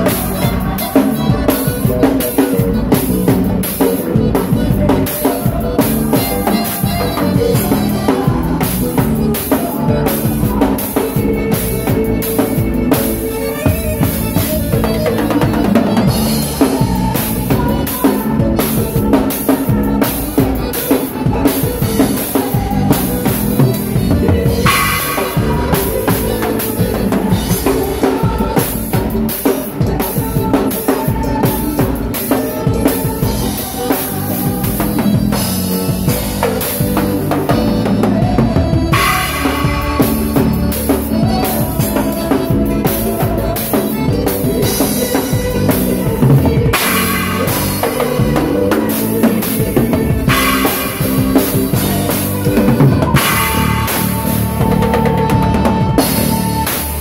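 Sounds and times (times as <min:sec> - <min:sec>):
drum kit playing: 0:00.0 - 0:57.0
keyboards playing: 0:00.0 - 0:57.0.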